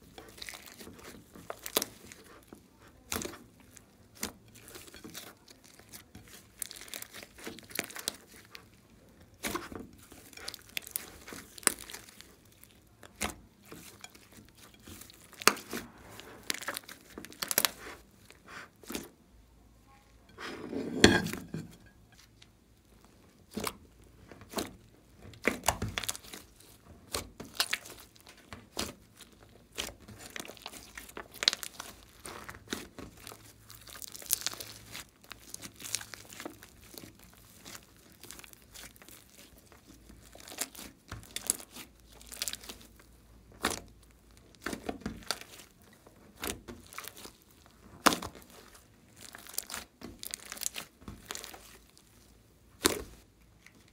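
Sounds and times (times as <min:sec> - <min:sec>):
sticky slime squishing: 0:00.0 - 0:53.9.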